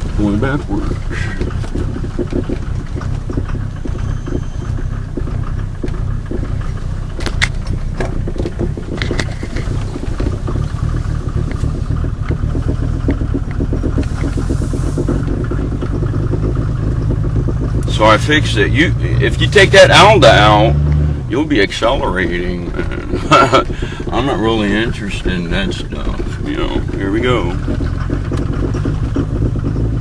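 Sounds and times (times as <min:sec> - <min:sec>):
diesel engine clattering: 0:00.0 - 0:30.0.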